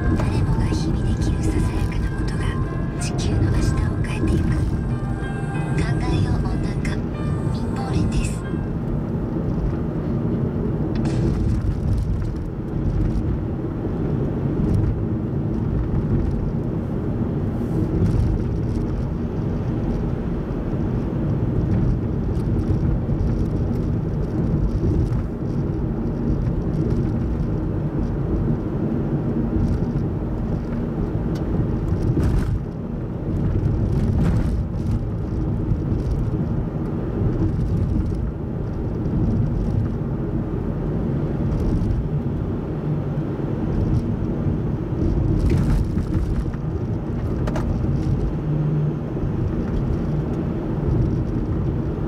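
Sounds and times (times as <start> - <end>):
road and engine noise inside car: 0.0 - 52.0.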